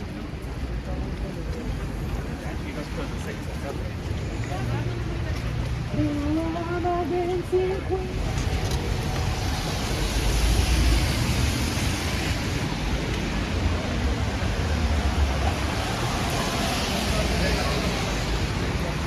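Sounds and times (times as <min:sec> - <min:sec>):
tyres on wet road: 0:00.0 - 0:19.0.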